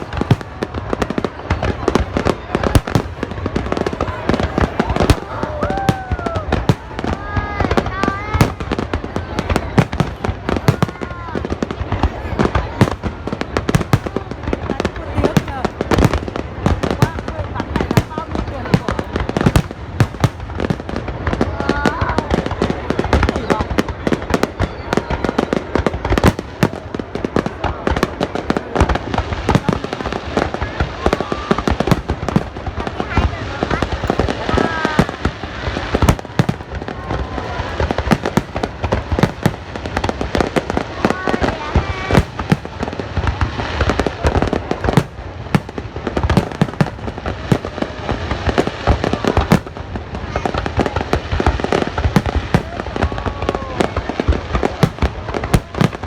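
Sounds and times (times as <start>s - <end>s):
fireworks bangs and crackles: 0.0s - 56.0s
loud firework booms: 0.0s - 56.0s.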